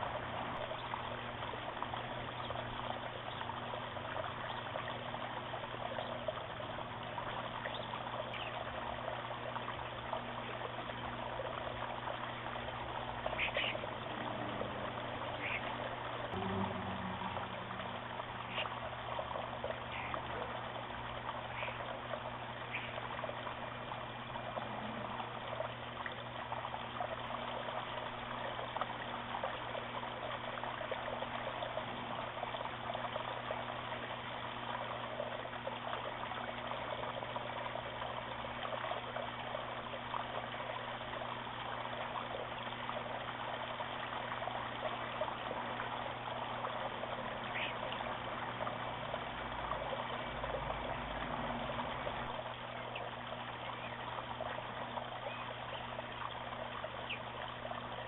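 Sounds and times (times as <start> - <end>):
low hum: 0.0 - 58.0
water trickling over stones: 0.0 - 58.0.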